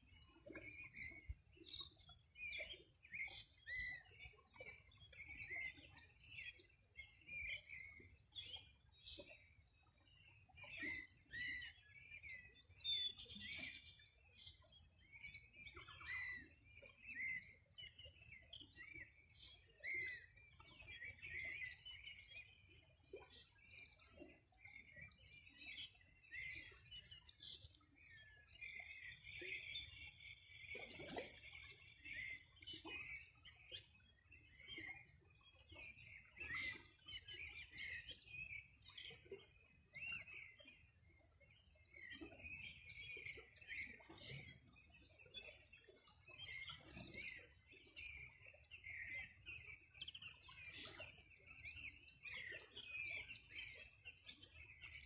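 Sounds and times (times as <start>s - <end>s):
faint wild birds singing: 0.0s - 55.0s.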